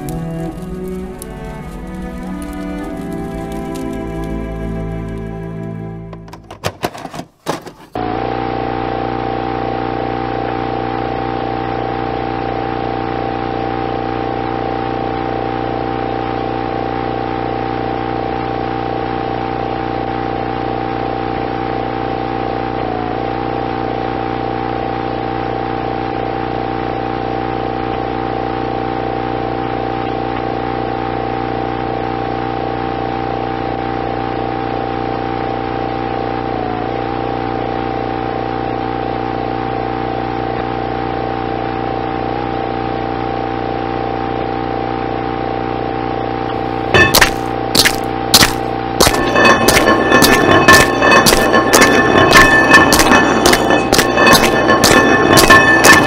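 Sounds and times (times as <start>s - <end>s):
droning hum with fast pulse: 0.0s - 6.0s, 8.0s - 56.0s.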